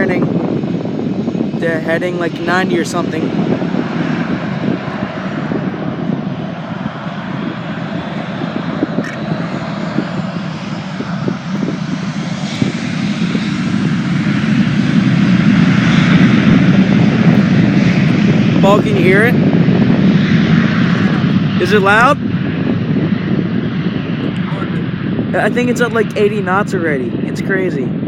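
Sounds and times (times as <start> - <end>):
jet engines spooling up: 0.0 - 28.0.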